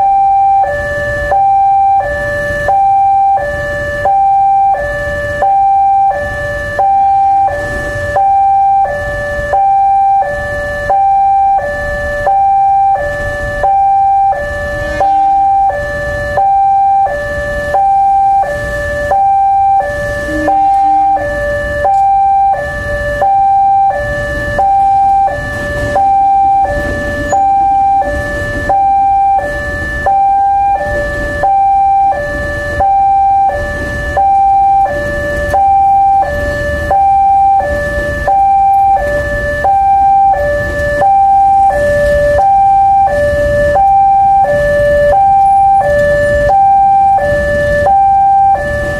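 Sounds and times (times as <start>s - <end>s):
two-tone level crossing siren: 0.0s - 48.9s.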